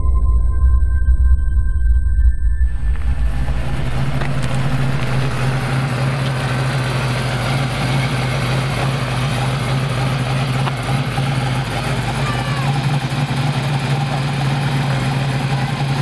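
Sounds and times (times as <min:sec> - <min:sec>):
car engine idling: 0:02.6 - 0:16.0.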